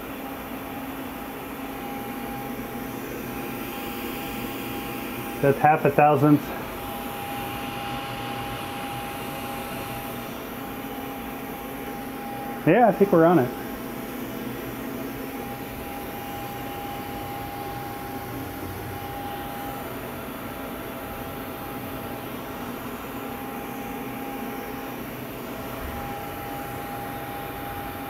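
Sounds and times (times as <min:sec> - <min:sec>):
shop machinery whirring hum: 0:00.0 - 0:28.0.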